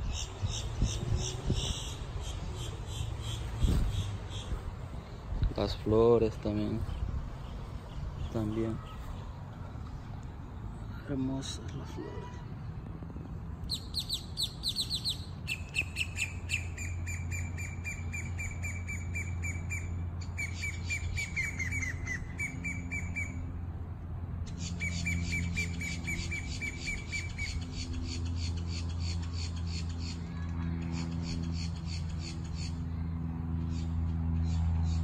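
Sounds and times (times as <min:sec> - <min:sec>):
songbird rapid chirping: 0:00.0 - 0:12.5, 0:13.6 - 0:23.5, 0:24.4 - 0:35.0
steady low hum: 0:00.0 - 0:35.0.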